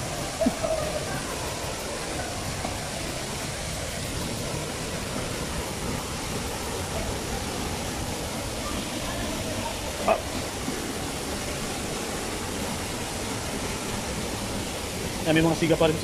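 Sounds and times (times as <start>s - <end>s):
stream running over rocks: 0.0s - 16.0s
waterfall rushing: 0.0s - 16.0s.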